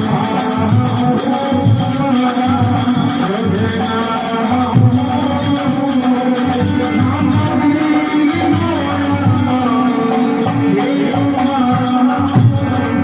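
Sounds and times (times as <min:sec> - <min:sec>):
devotional instrumental music: 0:00.0 - 0:13.0
jingling percussion: 0:00.0 - 0:13.0.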